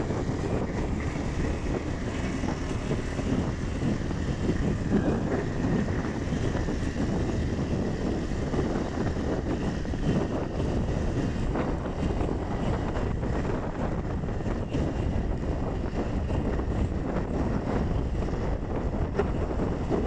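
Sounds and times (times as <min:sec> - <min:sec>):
road noise from moving vehicle: 0:00.0 - 0:20.0
wind rumble on microphone: 0:00.0 - 0:20.0.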